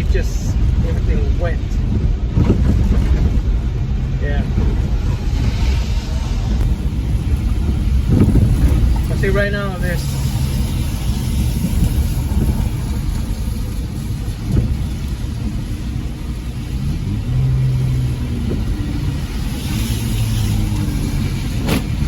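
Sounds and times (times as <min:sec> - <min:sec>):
car engine: 0:00.0 - 0:22.0
road noise inside car: 0:00.0 - 0:22.0.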